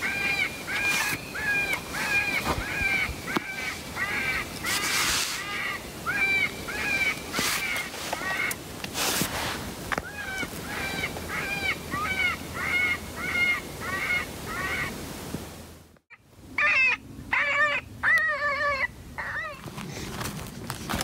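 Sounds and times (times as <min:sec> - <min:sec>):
coyote call wailing cries: 0:00.0 - 0:08.6, 0:10.0 - 0:14.9, 0:16.1 - 0:19.6.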